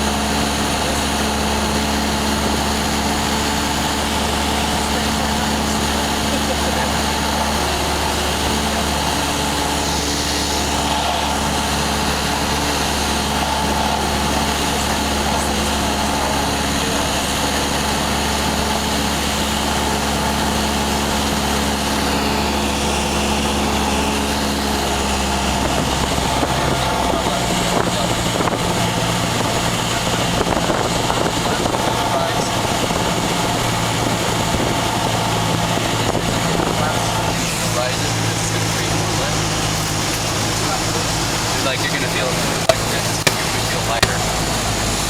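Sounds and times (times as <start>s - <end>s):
propeller airplane engine droning: 0.0s - 45.0s.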